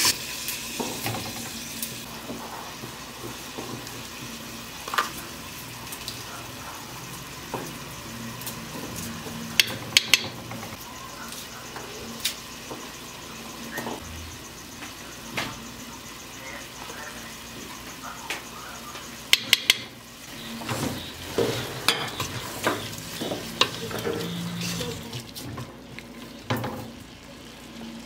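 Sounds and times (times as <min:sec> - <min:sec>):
beef sizzling in a pot: 0:00.0 - 0:14.6, 0:19.1 - 0:28.0.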